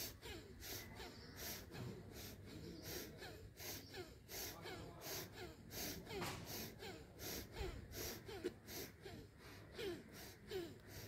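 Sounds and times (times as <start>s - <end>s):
woman breathing forcefully: 0.0s - 11.0s.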